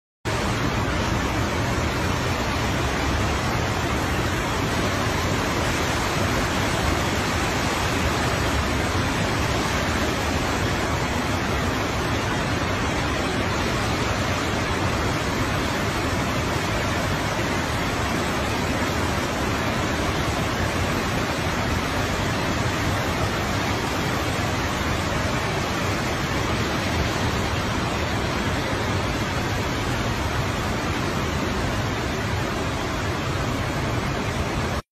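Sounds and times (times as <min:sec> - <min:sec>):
waterfall rushing: 0:00.3 - 0:34.8.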